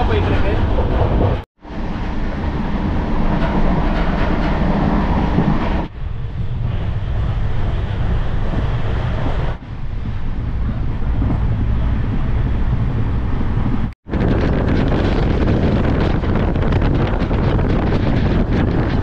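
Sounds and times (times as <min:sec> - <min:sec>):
train rumbling and rattling: 0:00.0 - 0:19.0.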